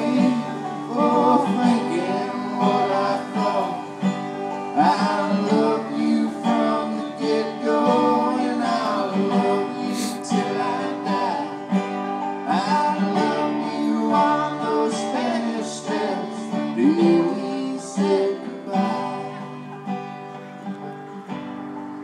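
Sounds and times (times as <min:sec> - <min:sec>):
sliding melody line: 0:00.0 - 0:21.9
acoustic guitars strumming: 0:00.0 - 0:22.0
banjo picking: 0:00.0 - 0:22.0.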